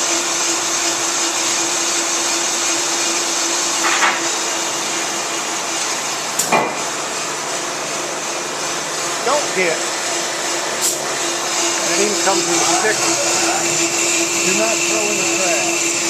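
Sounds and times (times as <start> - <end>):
brake lathe motor whirring: 0.0 - 16.0.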